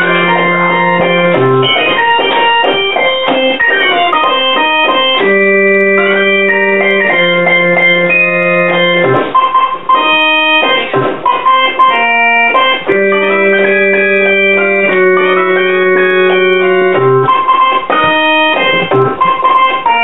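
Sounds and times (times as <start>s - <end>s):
organ-like keyboard chords: 0.0s - 20.0s.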